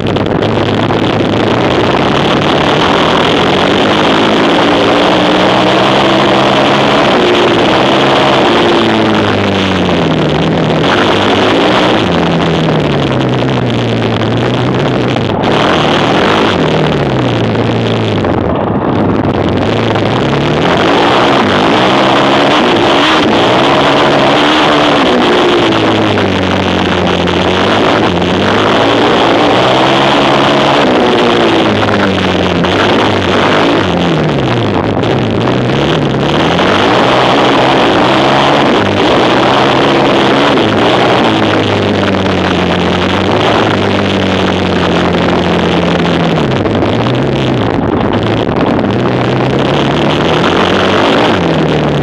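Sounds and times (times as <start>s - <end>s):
quad bike engine revving: 0.0s - 52.0s.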